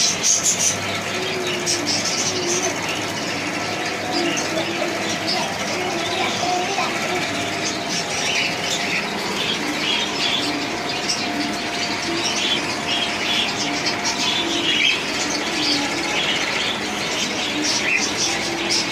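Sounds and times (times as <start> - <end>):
flock of birds squawking: 0.0 - 18.9.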